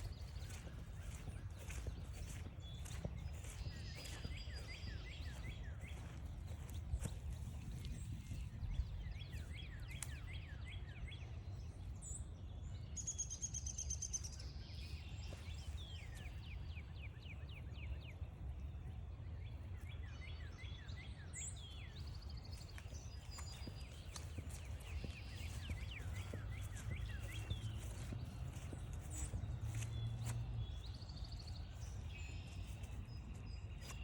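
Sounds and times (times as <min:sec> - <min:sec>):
birds chirping: 0:00.0 - 0:18.7, 0:19.4 - 0:34.0.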